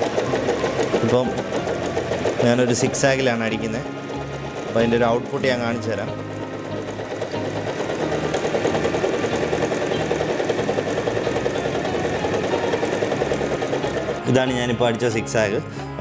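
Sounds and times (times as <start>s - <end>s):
electric sewing machine sewing: 0.0s - 15.7s.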